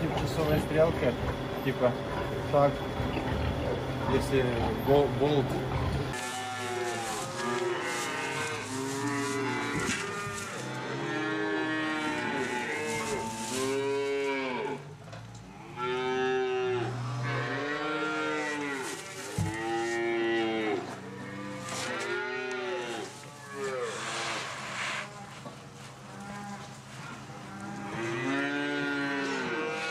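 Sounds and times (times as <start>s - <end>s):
calves bawling: 2.2s - 29.9s.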